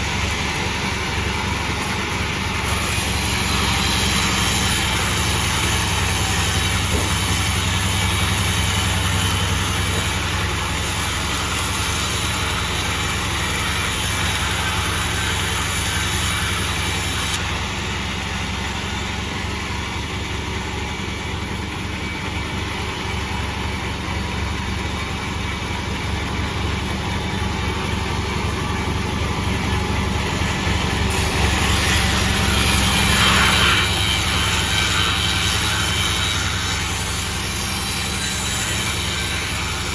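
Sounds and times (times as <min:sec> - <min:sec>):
sawmill machine sawing wood: 0:00.0 - 0:39.9.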